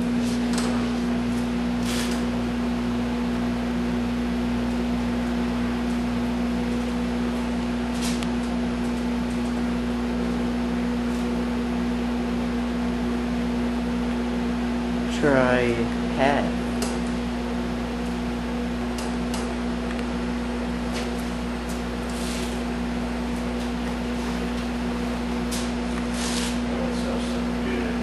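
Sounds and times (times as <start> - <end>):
power supply pulsing hum: 0.0 - 28.0.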